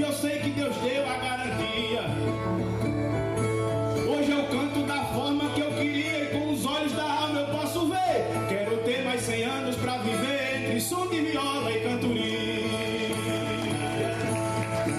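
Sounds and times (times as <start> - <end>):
man singing: 0.0 - 2.3, 4.0 - 14.9.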